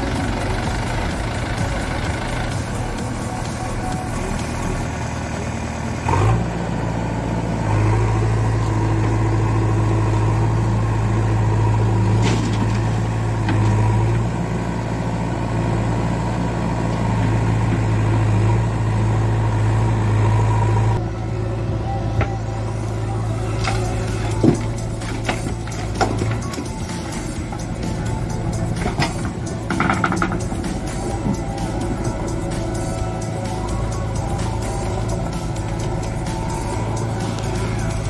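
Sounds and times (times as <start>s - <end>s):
diesel engines droning: 0.0s - 38.0s.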